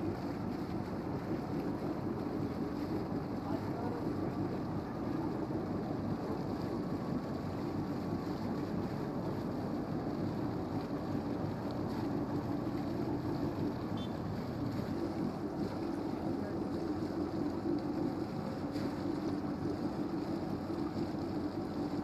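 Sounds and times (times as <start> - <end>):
ship engines droning: 0.0 - 22.0.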